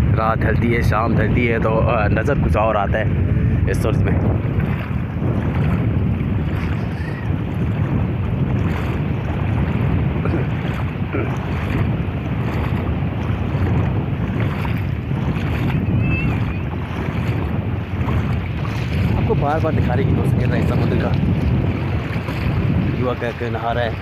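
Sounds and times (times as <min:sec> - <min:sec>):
wind buffeting microphone: 0:00.0 - 0:24.0
small waves washing: 0:02.4 - 0:24.0.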